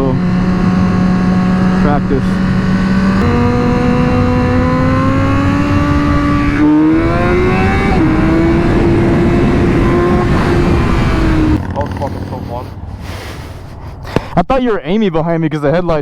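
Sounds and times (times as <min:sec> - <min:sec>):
motorcycle engine revving: 0:00.0 - 0:14.2
wind rushing: 0:00.2 - 0:14.2.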